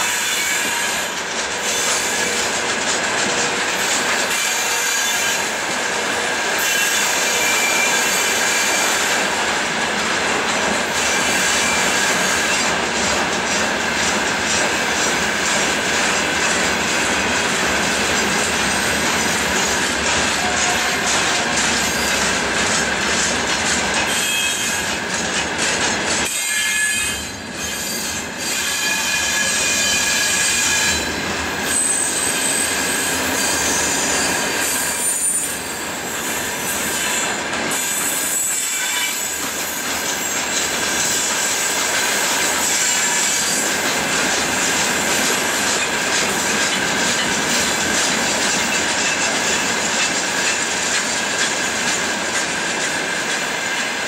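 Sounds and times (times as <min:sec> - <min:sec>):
train rolling rumble: 0:00.0 - 0:26.4, 0:27.0 - 0:54.0
train wheels squealing on rails: 0:00.0 - 0:54.0.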